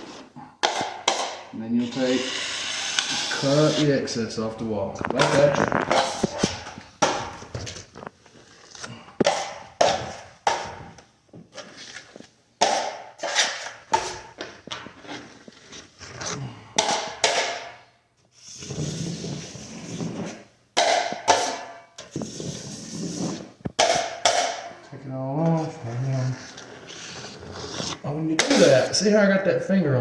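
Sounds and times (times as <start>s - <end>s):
taping knife scraping compound: 0.0s - 4.4s, 5.1s - 7.4s, 8.4s - 10.9s, 11.5s - 17.7s, 18.4s - 24.8s, 25.5s - 29.1s.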